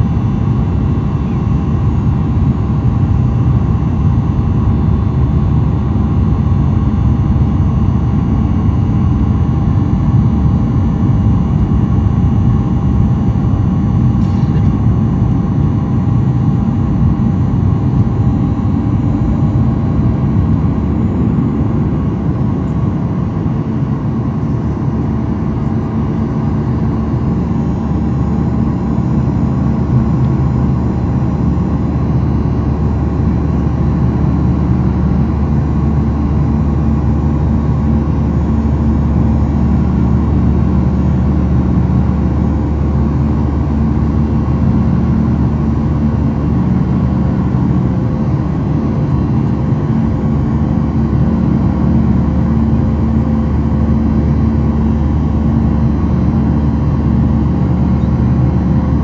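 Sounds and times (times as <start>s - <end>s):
faint steady whines: 0.0s - 59.0s
jet engine drone in cabin: 0.0s - 59.0s.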